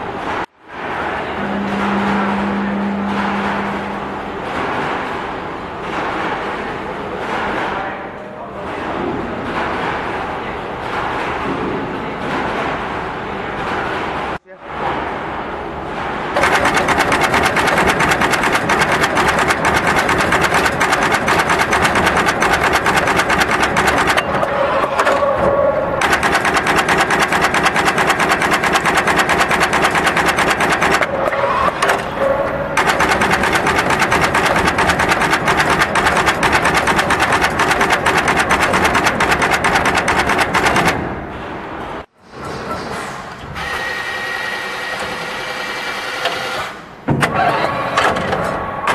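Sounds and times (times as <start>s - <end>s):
low machine hum: 0.0s - 45.6s
machine mechanical clatter: 0.0s - 48.9s.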